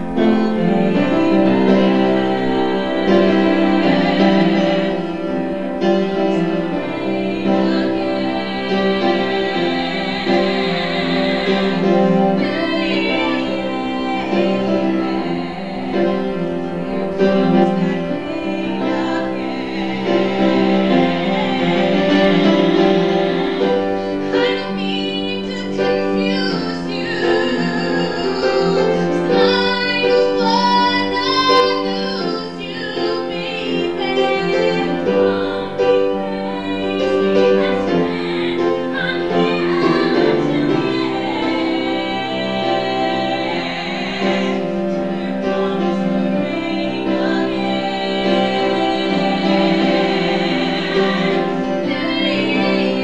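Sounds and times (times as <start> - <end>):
piano accompaniment: 0.0 - 53.0
women singing with vibrato: 0.0 - 53.0.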